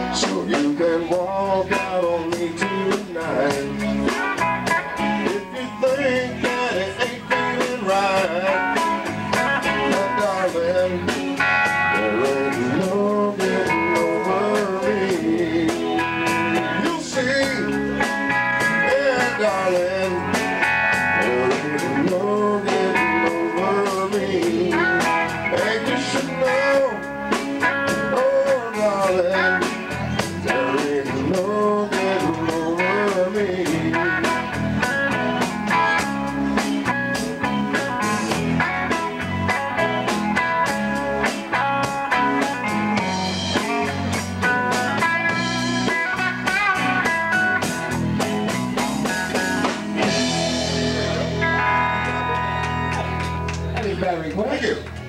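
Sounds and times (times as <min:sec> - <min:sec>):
band playing blues: 0:00.0 - 0:55.0.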